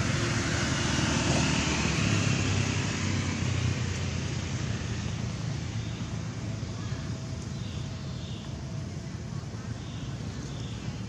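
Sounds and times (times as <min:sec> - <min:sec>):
motor scooters passing: 0:00.0 - 0:11.0.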